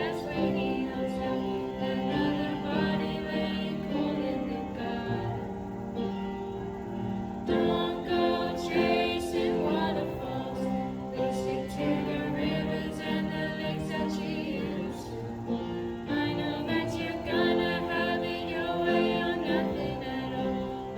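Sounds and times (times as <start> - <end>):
music with singing voices: 0.0 - 20.9.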